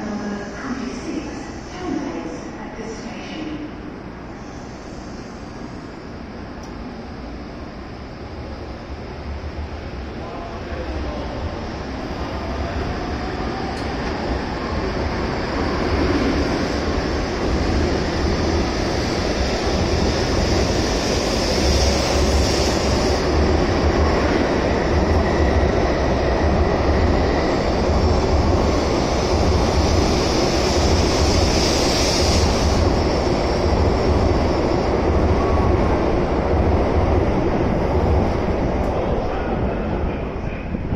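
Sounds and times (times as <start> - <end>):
train wheel and air rush: 0.0 - 40.9.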